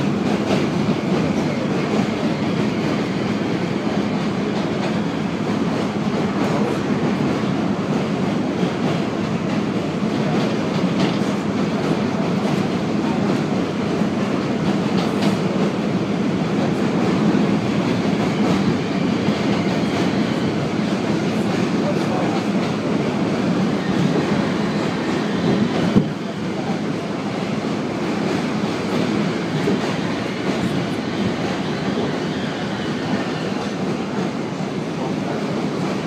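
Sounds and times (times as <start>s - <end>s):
rail joint clicks: 0.0s - 36.0s
subway wheels rumbling on rail: 0.0s - 36.0s.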